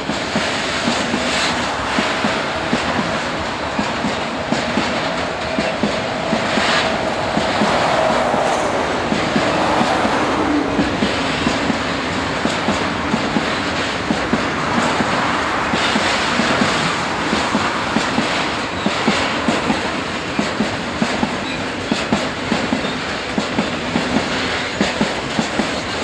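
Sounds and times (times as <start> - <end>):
rumble of wheels on rail: 0.0 - 26.0
train wheels clacking over rail joints: 0.0 - 26.0.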